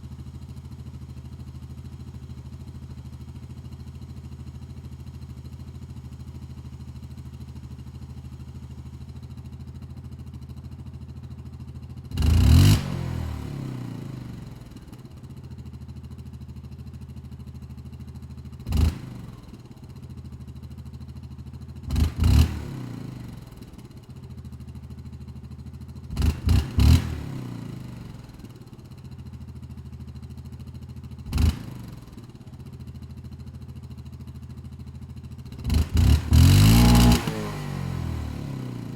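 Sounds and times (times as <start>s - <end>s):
atv engine idling and revving: 0.0s - 38.9s.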